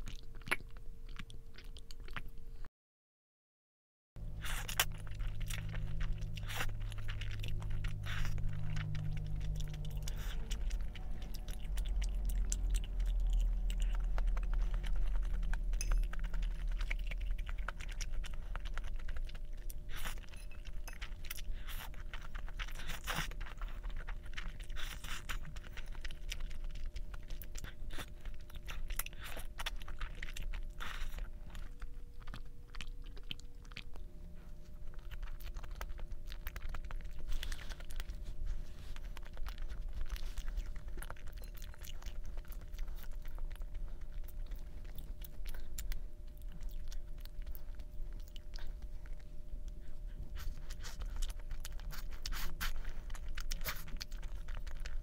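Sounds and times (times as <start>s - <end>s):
person chewing crunchy food: 0.0s - 2.7s, 4.2s - 55.0s.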